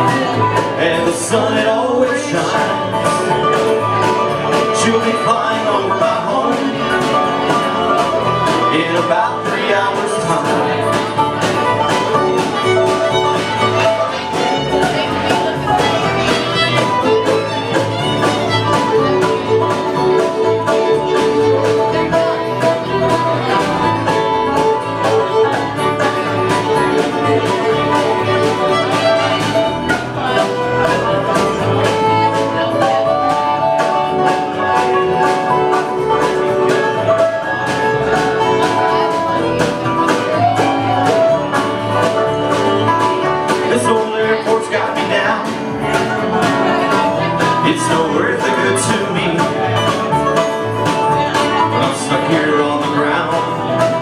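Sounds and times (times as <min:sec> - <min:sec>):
banjo: 0:00.0 - 0:54.0
fiddle: 0:00.0 - 0:54.0
guitar: 0:00.0 - 0:54.0.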